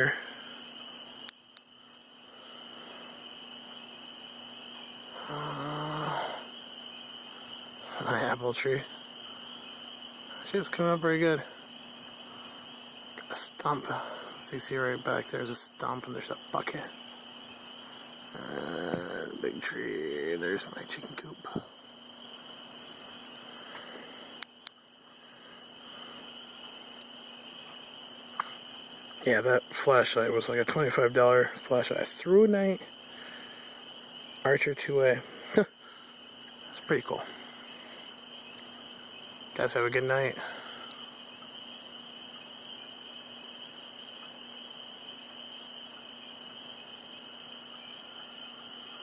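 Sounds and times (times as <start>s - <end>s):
bullfrog croaking: 0.0s - 30.3s, 32.2s - 49.0s
night insects chorus: 0.0s - 49.0s.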